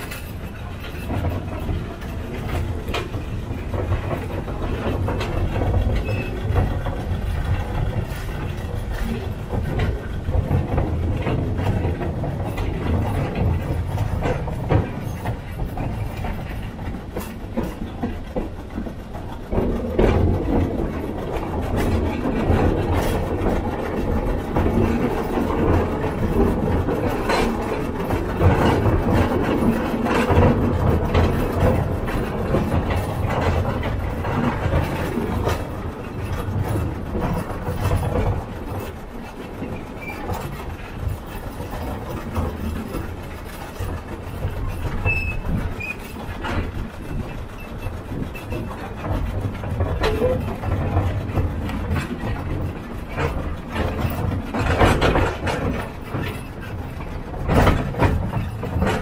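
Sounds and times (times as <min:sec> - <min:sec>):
low train rumble: 0:00.0 - 0:59.0
train wheels clacking over track: 0:00.0 - 0:59.0.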